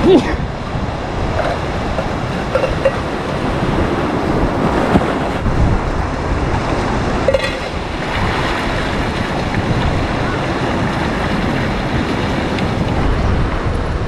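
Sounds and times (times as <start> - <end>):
surf washing on shore: 0.0 - 14.0
wind buffeting microphone: 0.0 - 14.0.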